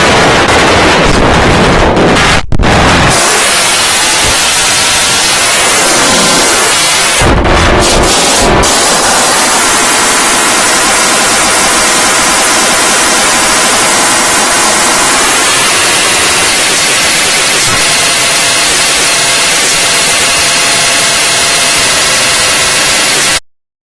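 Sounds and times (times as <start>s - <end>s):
harsh static noise: 0.0s - 23.4s.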